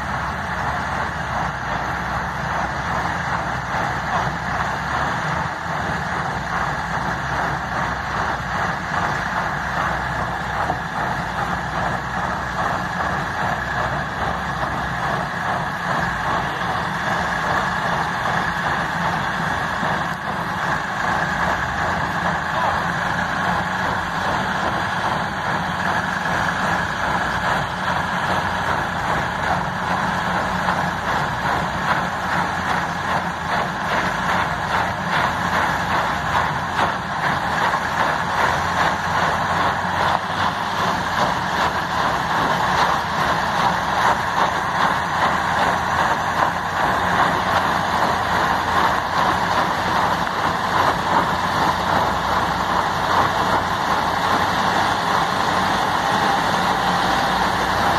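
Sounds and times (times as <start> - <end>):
diesel truck engines under load: 0.0 - 57.9.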